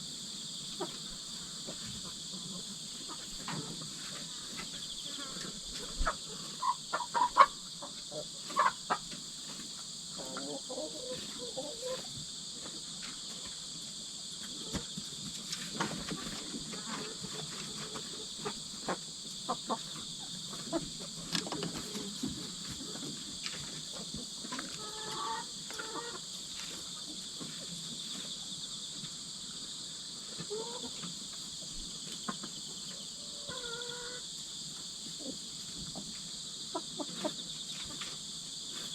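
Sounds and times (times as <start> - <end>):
insects trilling: 0.0 - 38.9
hens clucking: 0.6 - 13.2, 14.4 - 28.4, 30.2 - 38.2.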